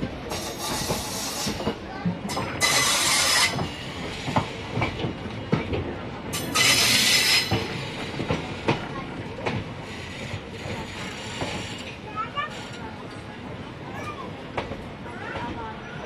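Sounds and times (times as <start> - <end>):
train wheels clacking over joints: 0.0 - 13.3.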